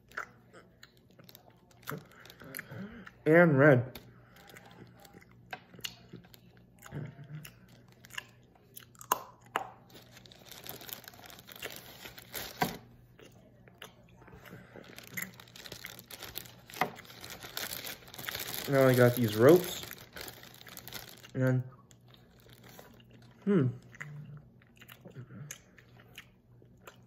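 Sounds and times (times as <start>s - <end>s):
chewing candy with crunches: 0.0s - 3.3s, 3.9s - 27.0s.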